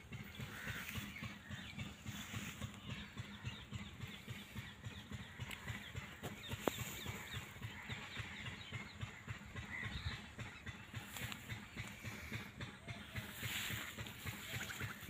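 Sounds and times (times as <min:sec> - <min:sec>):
low fluttering rumble: 0:00.0 - 0:15.0.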